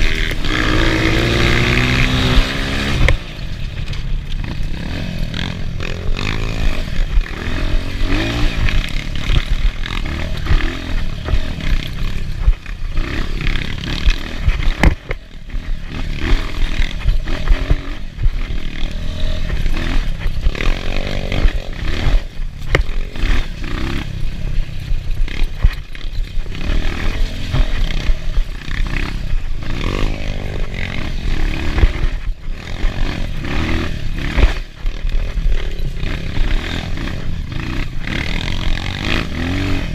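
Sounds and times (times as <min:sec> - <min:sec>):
knocks and rattles: 0:00.0 - 0:39.7
motorcycle engine revving: 0:00.0 - 0:39.9.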